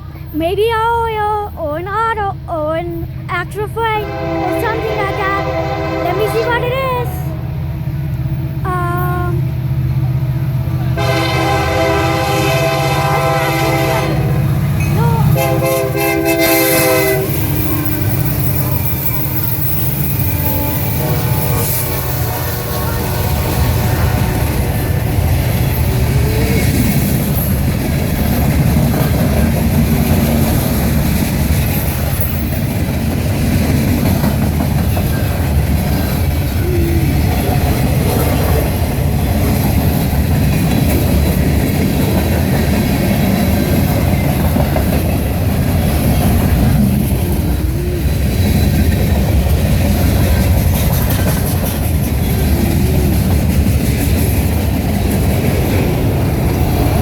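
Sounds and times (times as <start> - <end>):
freight train rumbling on rails: 2.4 - 57.0.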